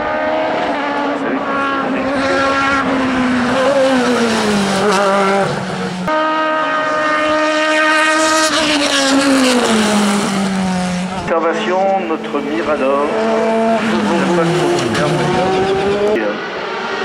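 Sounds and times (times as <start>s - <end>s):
race car engine passing: 0.0s - 17.0s
second race car engine: 0.0s - 17.0s.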